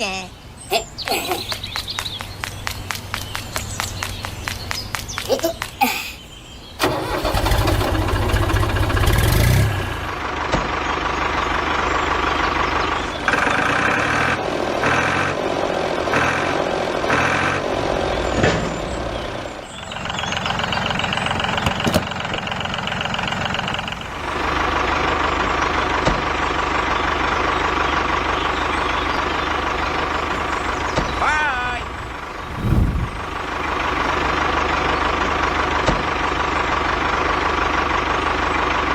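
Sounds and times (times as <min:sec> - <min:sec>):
truck engine running: 0:06.8 - 0:38.9.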